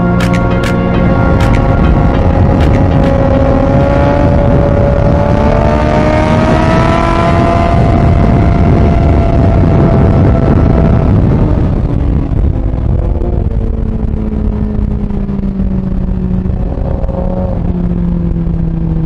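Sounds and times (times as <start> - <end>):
motorcycle engine at high revs: 0.0 - 19.0
wind rush on microphone: 0.0 - 19.0.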